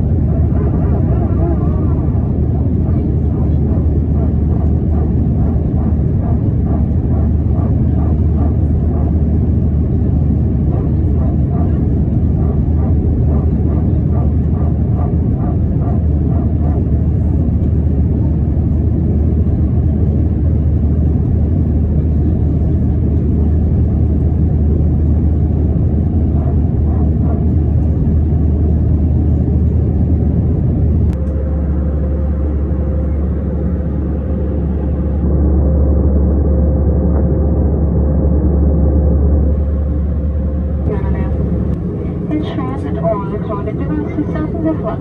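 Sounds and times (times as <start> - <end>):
faint constant hum: 0.0 - 45.0
jet engine and airflow roar: 0.0 - 45.0.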